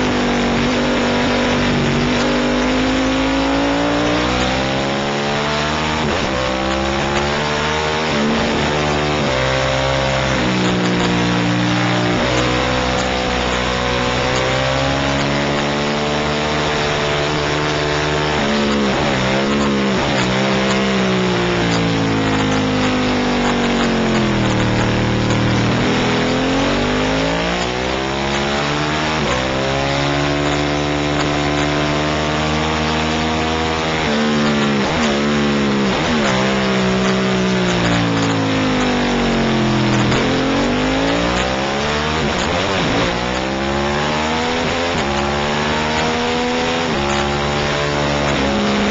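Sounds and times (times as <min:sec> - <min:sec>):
racing motorcycle engine revving: 0:00.0 - 0:48.9.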